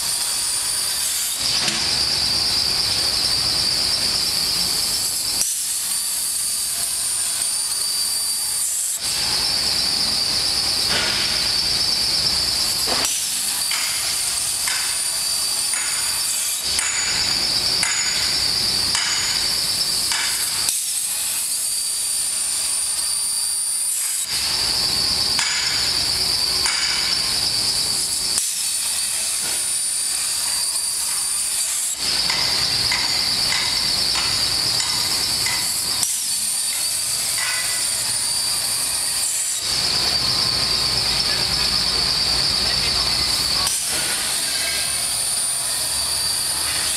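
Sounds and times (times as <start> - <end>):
plasma torch hissing arc: 0.0 - 46.9.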